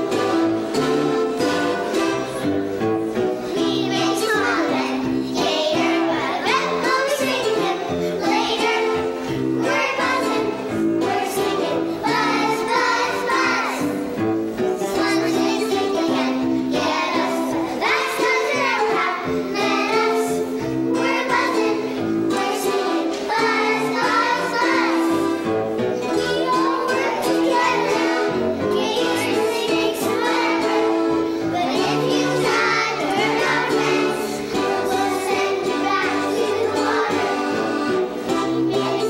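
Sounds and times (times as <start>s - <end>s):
instrumental accompaniment: 0.0s - 39.0s
children singing: 3.3s - 39.0s.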